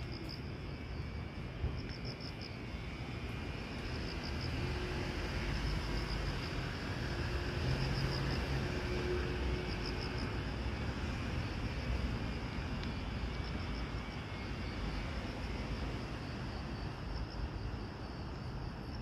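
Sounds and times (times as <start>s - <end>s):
insects chirping: 0.0s - 19.0s
low rumble of distant traffic: 0.0s - 19.0s.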